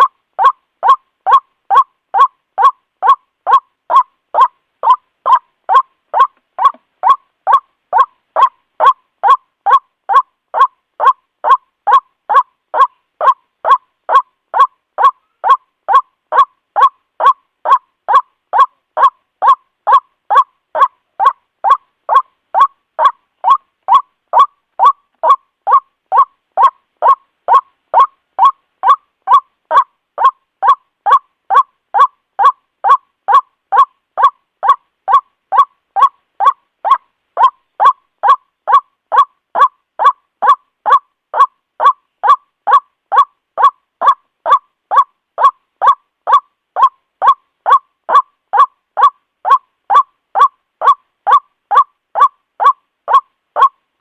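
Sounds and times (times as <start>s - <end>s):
looped bird call: 0.0s - 53.8s.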